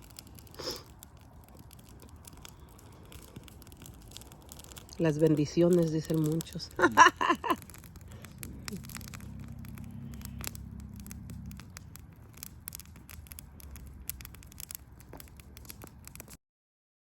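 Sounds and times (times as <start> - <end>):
campfire crackling and popping: 0.0 - 16.4
low rumble: 0.0 - 16.4.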